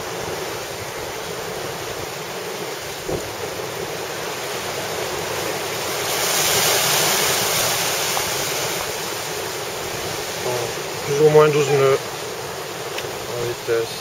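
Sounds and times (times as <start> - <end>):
wind on microphone: 0.0 - 13.4
water rushing past boat: 0.0 - 14.0
waves breaking: 0.0 - 14.0.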